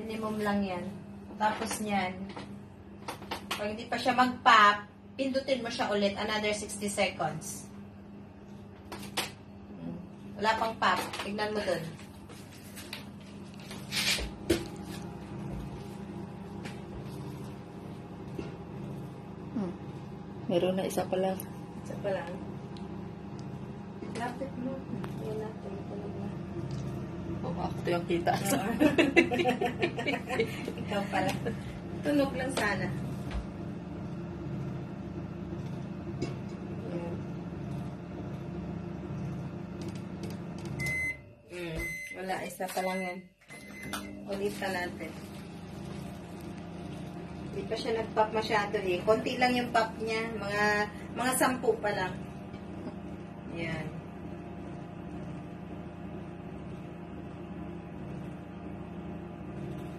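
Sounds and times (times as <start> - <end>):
microwave oven humming: 0.0 - 59.9.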